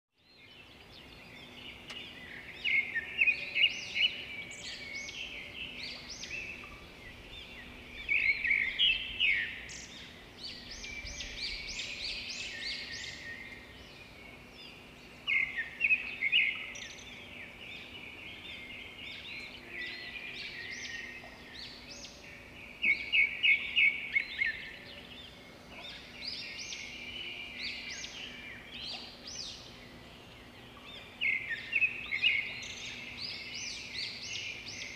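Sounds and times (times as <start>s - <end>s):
birds chirping and singing: 0.2s - 34.9s.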